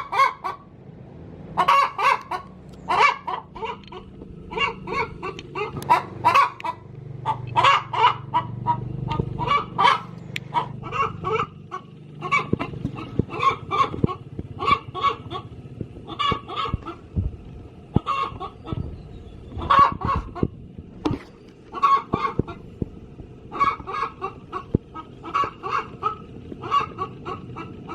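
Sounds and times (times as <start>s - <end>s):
hen clucking: 0.0s - 0.7s, 1.5s - 27.9s.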